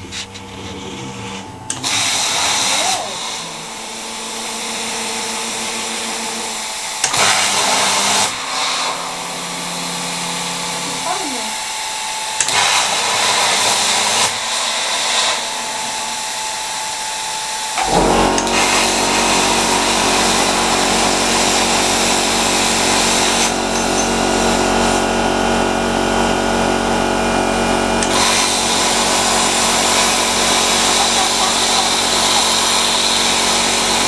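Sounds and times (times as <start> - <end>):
air hissing: 0.0 - 25.2, 28.0 - 34.0
plasma cutter arc buzzing: 0.0 - 34.0.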